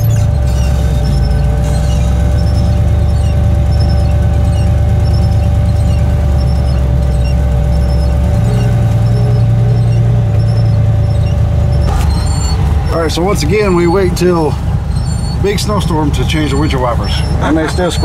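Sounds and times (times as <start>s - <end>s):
car engine drone from inside: 0.0s - 18.0s
steady whine: 0.0s - 18.0s
windshield wipers squeaking: 0.0s - 18.0s.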